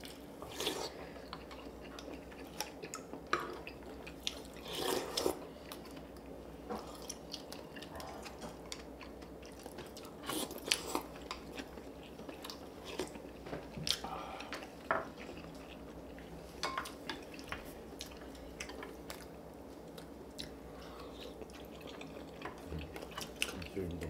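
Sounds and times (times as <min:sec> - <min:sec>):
people chewing food: 0:00.0 - 0:24.0.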